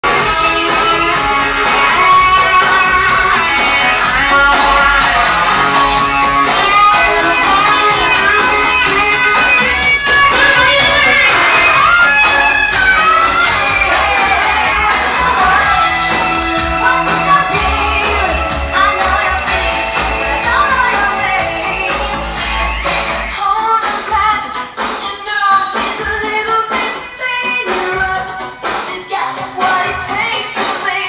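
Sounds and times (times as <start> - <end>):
loud guitar music: 0.0 - 29.3.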